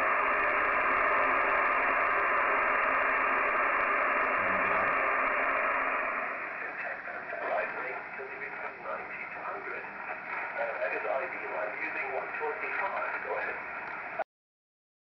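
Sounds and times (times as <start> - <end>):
radio band noise hiss: 0.0 - 14.2.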